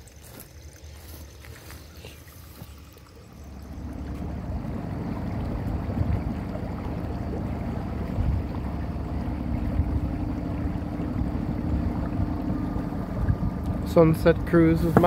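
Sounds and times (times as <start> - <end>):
boat engine low rumble: 0.0 - 15.0
moving water wash: 0.0 - 15.0.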